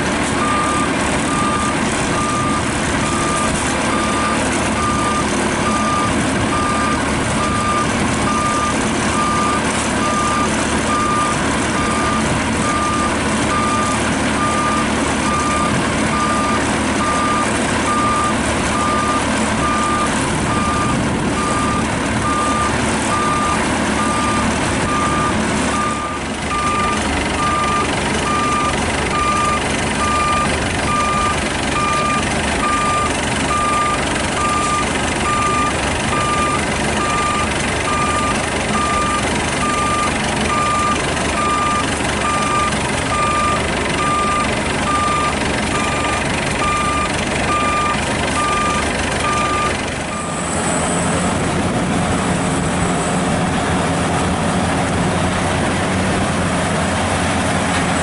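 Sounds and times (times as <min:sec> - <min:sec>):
combine harvester engine running: 0:00.0 - 0:58.0
electronic warning beeper: 0:00.4 - 0:50.4.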